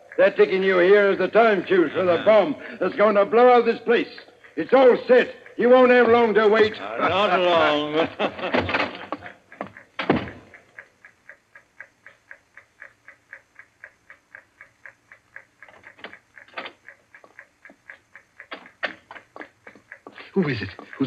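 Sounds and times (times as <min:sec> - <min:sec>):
clockwork fuse ticking: 0:00.0 - 0:21.0.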